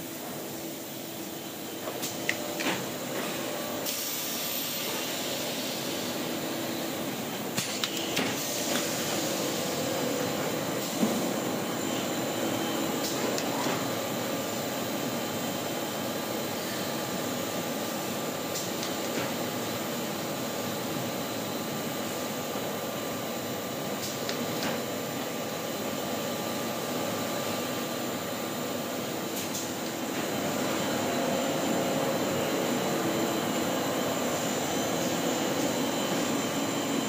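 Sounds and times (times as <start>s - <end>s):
machinery hiss and hum: 0.0s - 37.0s.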